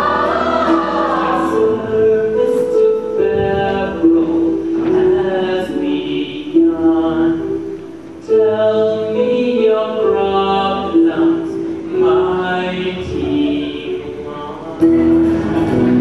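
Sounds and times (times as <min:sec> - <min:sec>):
musical accompaniment: 0:00.0 - 0:16.0
voices singing together: 0:00.0 - 0:16.0.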